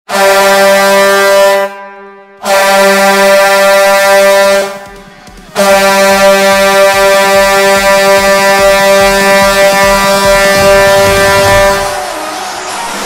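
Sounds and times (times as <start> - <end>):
deep air horn blasts: 0.1 - 13.0.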